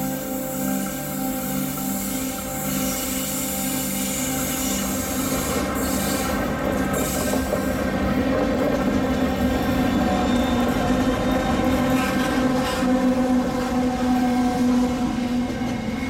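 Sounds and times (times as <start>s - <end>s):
steam train running: 0.0s - 16.0s.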